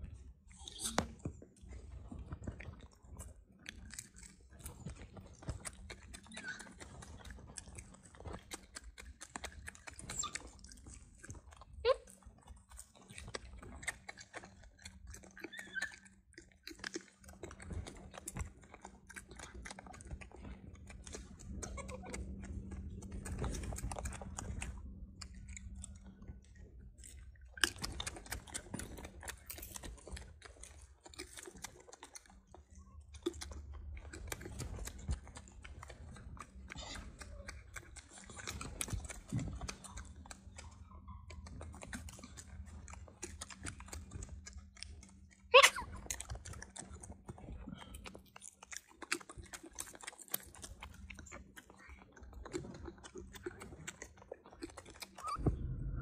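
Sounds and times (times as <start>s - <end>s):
low steady hum: 0.0s - 56.0s
monkey chewing food: 0.0s - 56.0s.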